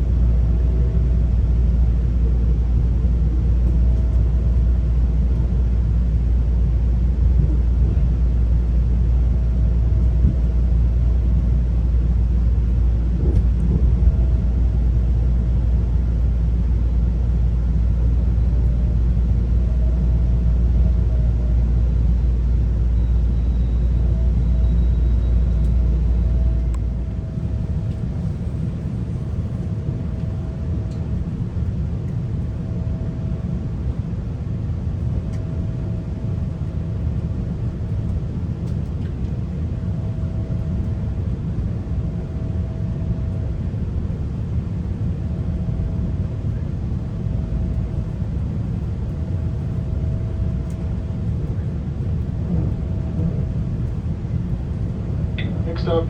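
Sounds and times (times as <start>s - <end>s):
faint hum: 0.0s - 56.0s
train rumbling on rails: 0.0s - 56.0s.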